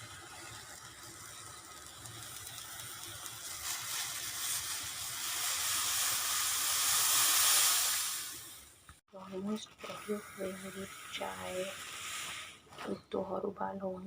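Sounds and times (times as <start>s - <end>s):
pot of tea hissing on stove: 0.0s - 12.9s.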